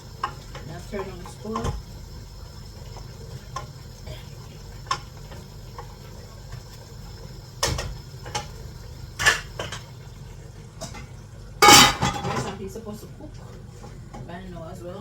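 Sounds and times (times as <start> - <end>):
light clicks of kitchen work: 0.0 - 14.5
steady low hum: 0.0 - 15.0.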